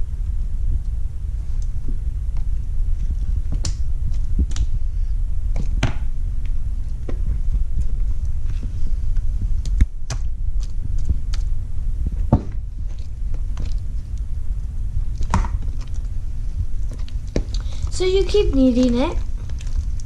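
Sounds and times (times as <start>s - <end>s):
low rumble of handling noise: 0.0s - 20.0s.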